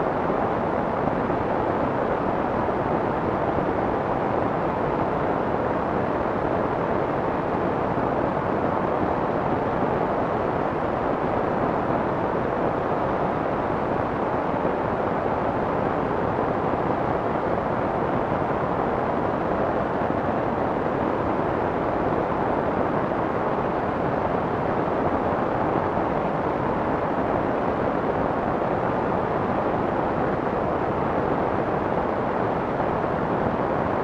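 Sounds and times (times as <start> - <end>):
soft white noise: 0.0 - 34.0.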